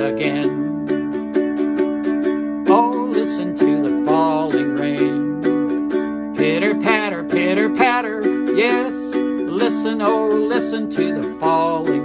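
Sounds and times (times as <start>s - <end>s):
man singing: 0.0s - 12.0s
ukulele strumming: 0.0s - 12.0s.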